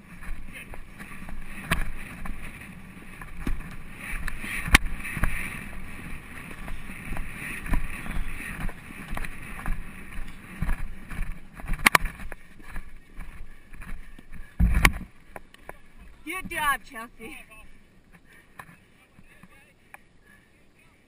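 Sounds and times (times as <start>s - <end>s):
hoofbeats on grass: 0.0s - 17.6s
steady rushing haze: 0.0s - 21.0s.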